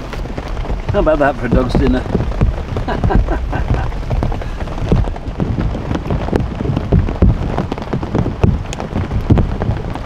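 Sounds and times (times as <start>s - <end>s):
rain pattering on a tarp: 0.0s - 10.0s.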